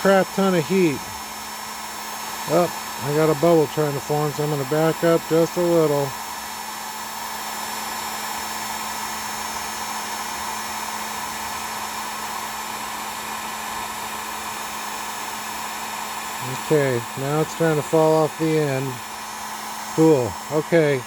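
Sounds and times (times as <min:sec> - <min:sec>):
heat gun blowing: 0:00.0 - 0:21.0.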